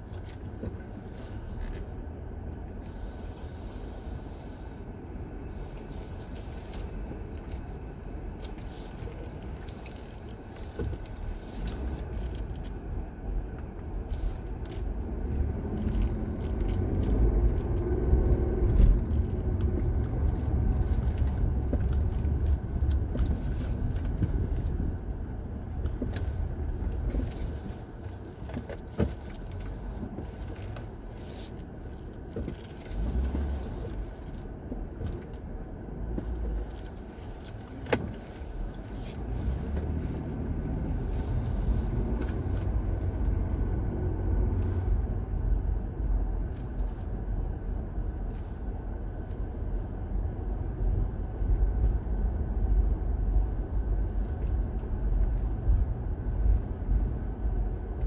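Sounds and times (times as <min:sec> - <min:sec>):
passing cars rumbling: 0:00.0 - 0:58.0.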